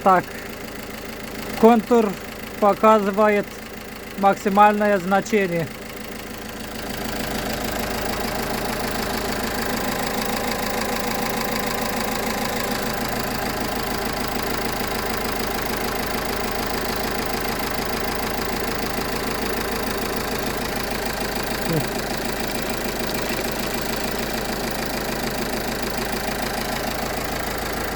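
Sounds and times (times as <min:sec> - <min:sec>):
car engine idling: 0:00.0 - 0:27.9
engine knock: 0:00.0 - 0:27.9.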